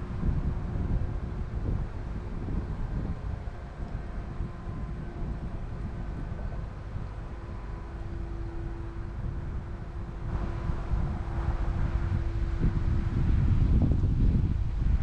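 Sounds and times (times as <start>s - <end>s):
mechanical hum: 0.0s - 15.0s
wind buffeting microphone: 0.0s - 15.0s.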